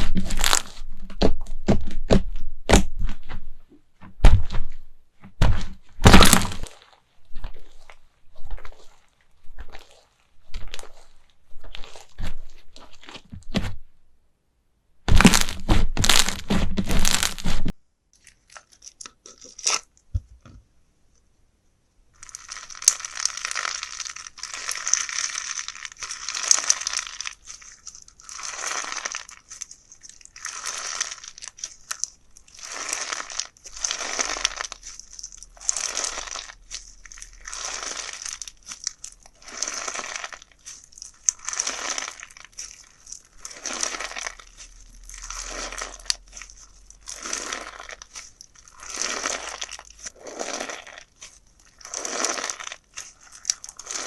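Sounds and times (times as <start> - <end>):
slime crunchy crackling: 0.0 - 3.4, 5.4 - 13.8, 15.1 - 20.0, 22.2 - 54.0
slime squishing: 0.0 - 3.5, 4.2 - 14.0, 15.1 - 20.2, 22.2 - 54.0.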